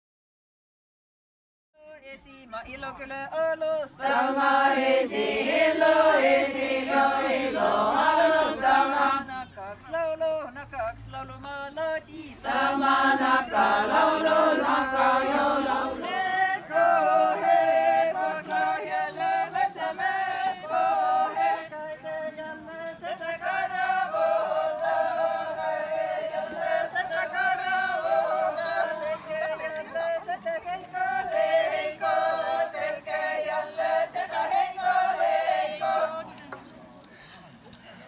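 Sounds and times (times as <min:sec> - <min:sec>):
group singing polyphonic folk song: 0:03.8 - 0:10.1, 0:11.4 - 0:38.0.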